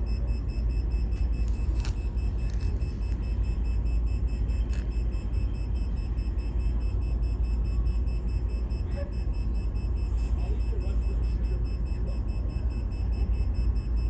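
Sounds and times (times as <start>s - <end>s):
rapid high-pitched kiosk beeps: 0.0s - 14.0s
steady low rumble: 0.0s - 14.0s.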